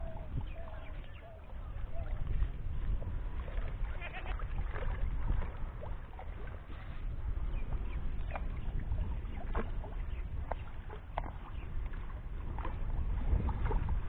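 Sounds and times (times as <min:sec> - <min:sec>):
low wind rumble on microphone: 0:00.0 - 0:14.0
water sloshing and splashing: 0:00.0 - 0:14.0.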